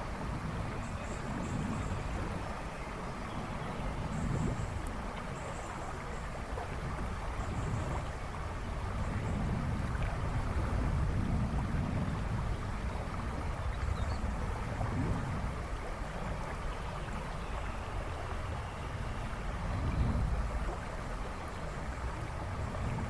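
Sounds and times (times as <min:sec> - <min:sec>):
river rushing and babbling: 0:00.0 - 0:23.0.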